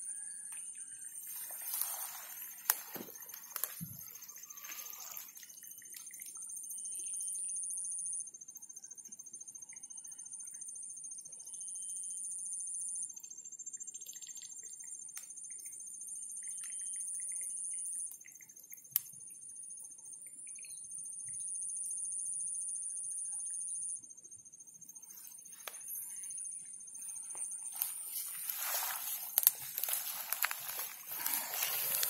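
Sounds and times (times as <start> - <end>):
insect fast pulsing trill: 0.0 - 32.0
insect high continuous buzz: 0.0 - 32.0.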